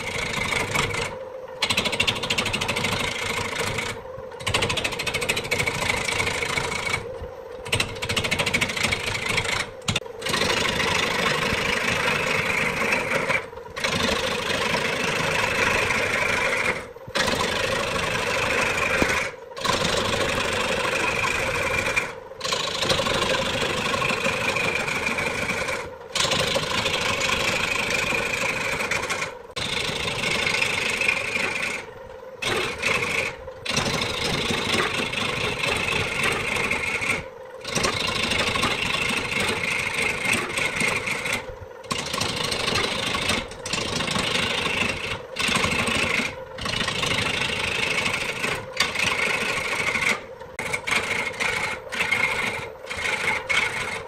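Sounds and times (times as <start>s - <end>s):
woodworking tool whining: 0.0s - 54.0s.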